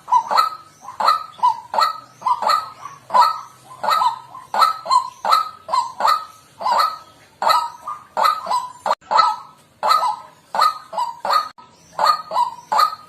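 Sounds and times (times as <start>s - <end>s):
waterhen croaking calls: 0.0s - 13.0s.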